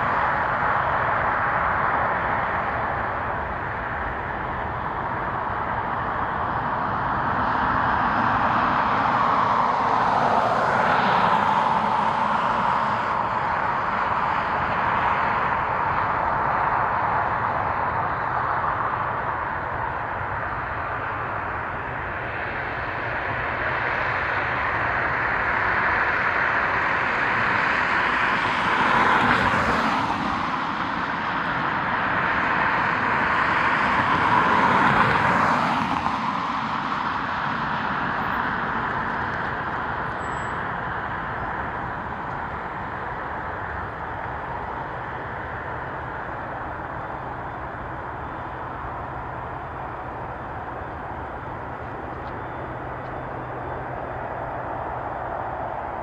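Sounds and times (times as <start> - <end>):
jet airliner engine rush: 0.0 - 56.0.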